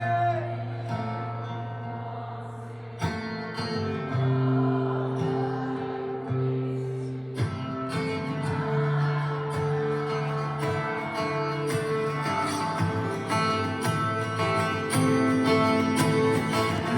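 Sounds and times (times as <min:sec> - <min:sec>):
guitar music with deep bass: 0:00.0 - 0:16.9
plucked guitar chords: 0:00.0 - 0:16.9.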